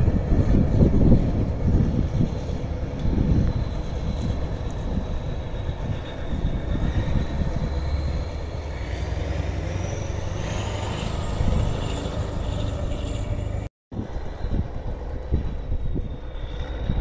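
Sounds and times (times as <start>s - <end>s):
tractor diesel engine rumbling: 0.0s - 17.0s.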